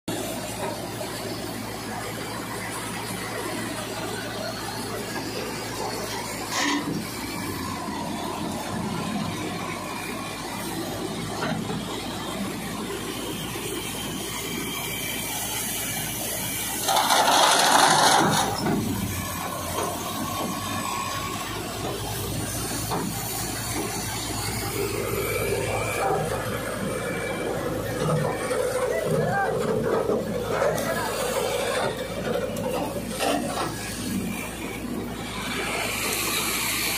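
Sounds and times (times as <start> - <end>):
tractor engine: 0.0 - 36.9
grain thresher churning: 0.1 - 36.9.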